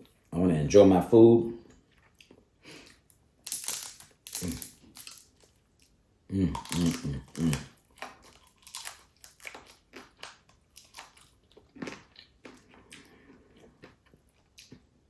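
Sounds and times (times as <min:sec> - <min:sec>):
crunching and chewing: 0:01.7 - 0:15.0.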